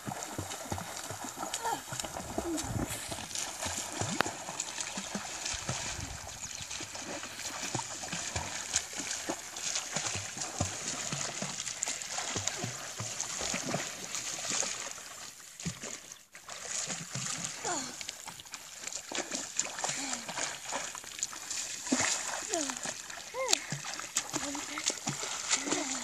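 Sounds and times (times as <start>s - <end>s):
swimming splashes: 0.0s - 26.0s.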